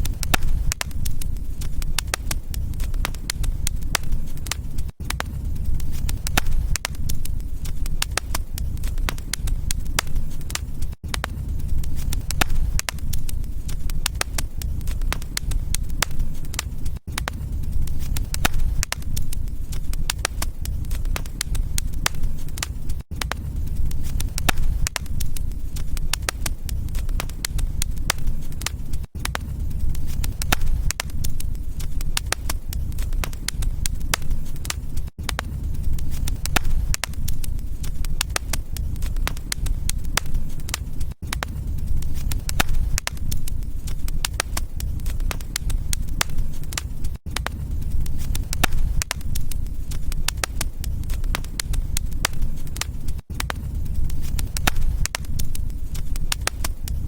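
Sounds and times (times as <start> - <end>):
low rumble: 0.0 - 57.0
sharp pops and snaps: 0.0 - 57.0
wood fire crackling: 0.0 - 57.0.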